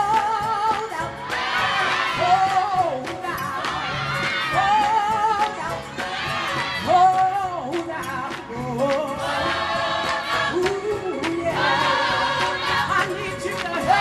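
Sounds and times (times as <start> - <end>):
gospel choir singing: 0.0 - 7.9, 8.9 - 14.0.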